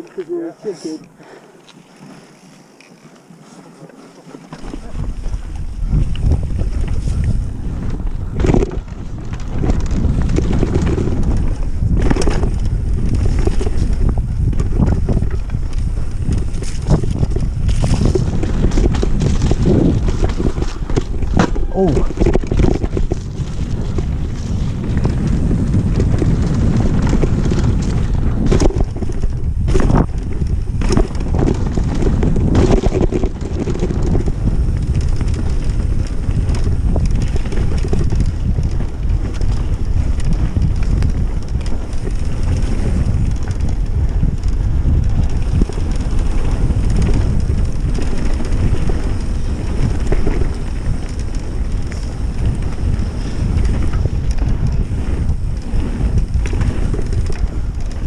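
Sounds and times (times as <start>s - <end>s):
tyres rumbling over trail: 3.4s - 58.0s
bike knocks and rattles: 4.4s - 58.0s
wind buffeting microphone: 4.5s - 58.0s.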